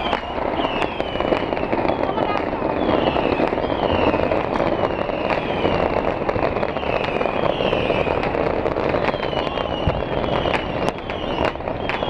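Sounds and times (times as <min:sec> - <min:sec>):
fireworks crackling and banging: 0:00.0 - 0:12.0
high falling firework whistle: 0:00.0 - 0:12.0.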